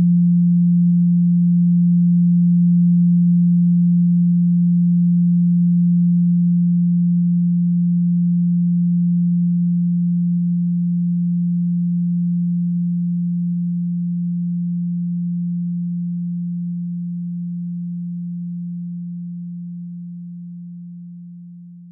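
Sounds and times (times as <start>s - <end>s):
low sine tone: 0.0s - 21.9s.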